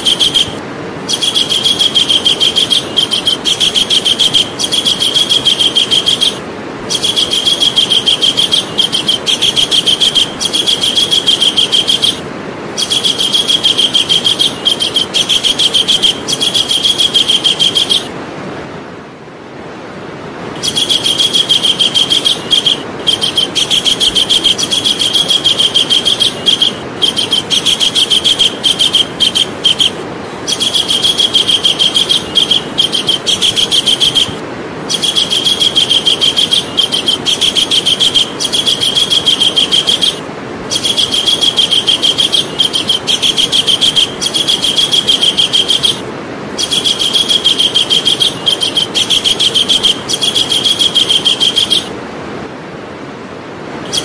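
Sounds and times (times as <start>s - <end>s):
kingfisher calling: 0.0s - 18.1s, 20.6s - 52.0s
background hiss: 0.0s - 54.0s.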